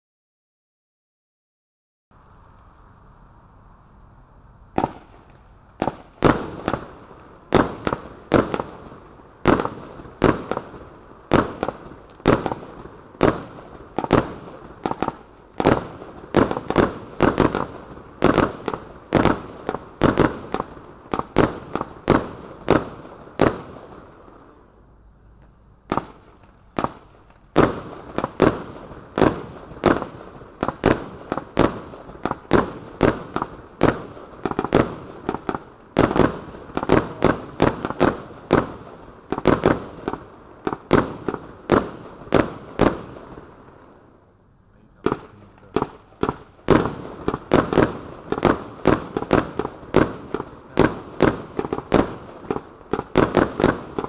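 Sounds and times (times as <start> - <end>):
firework battery bangs: 4.7 - 24.0, 25.9 - 43.5, 45.0 - 54.0.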